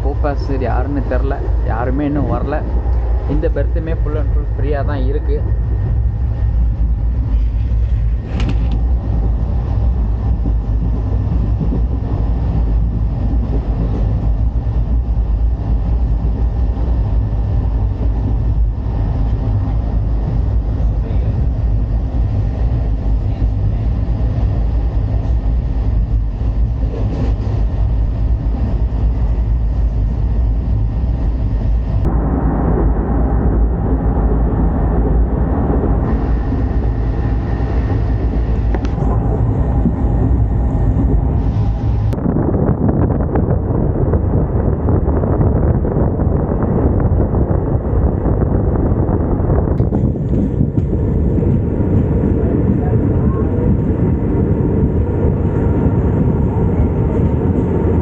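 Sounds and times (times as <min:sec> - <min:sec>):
train rumbling on tracks: 0:00.0 - 0:58.0.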